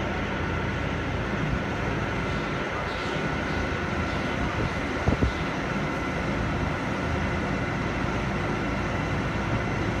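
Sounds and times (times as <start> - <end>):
engine rumbling: 0.0 - 10.0
thin constant whine: 0.0 - 10.0.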